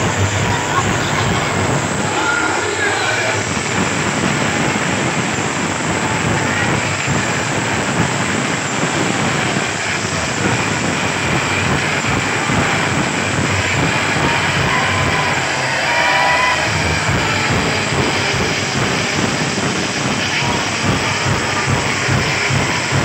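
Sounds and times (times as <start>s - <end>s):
crowd cheering and shouting: 0.0s - 23.0s.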